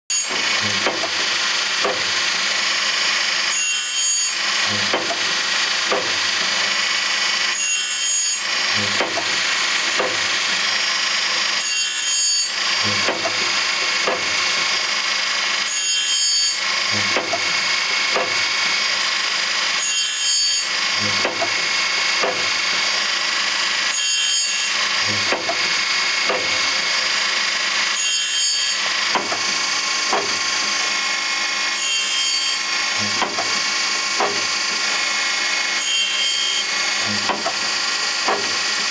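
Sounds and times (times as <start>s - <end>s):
sharpening machine grinding blade: 0.1s - 38.9s.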